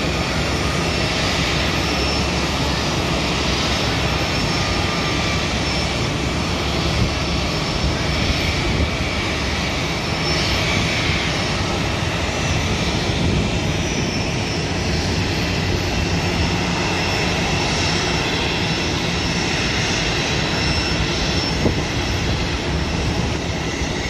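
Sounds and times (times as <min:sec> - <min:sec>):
high engine whine: 0:00.0 - 0:24.0
jet engines rumbling: 0:00.0 - 0:24.0.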